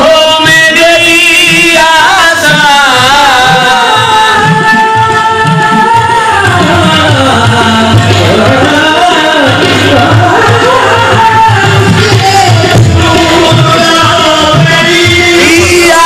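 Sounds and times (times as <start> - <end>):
steady drum beat: 0.0 - 16.0.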